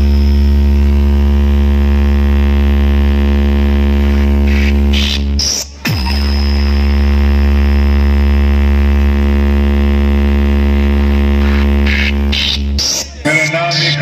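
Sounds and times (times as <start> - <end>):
deep bass drone from speakers: 0.0 - 14.0.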